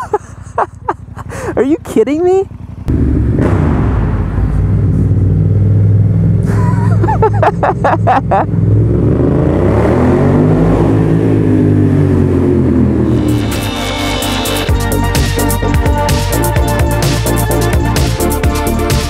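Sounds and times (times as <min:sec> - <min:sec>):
motorcycle engine revving: 0:00.5 - 0:19.0.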